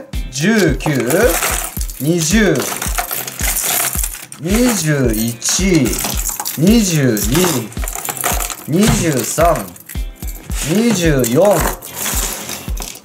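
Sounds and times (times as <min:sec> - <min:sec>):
background music with beat: 0:00.0 - 0:13.0
fishing lures clattering: 0:00.4 - 0:13.0.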